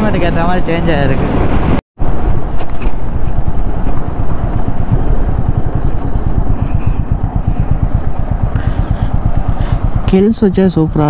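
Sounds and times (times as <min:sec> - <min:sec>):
motorcycle engine running: 0:00.0 - 0:11.0
riding wind rumble: 0:00.0 - 0:11.0.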